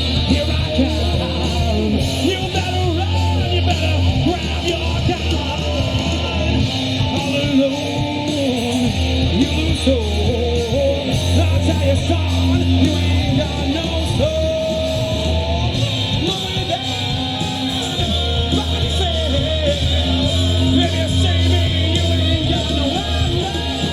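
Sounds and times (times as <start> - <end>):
live rock band playing: 0.0 - 23.9
person singing: 0.0 - 23.9.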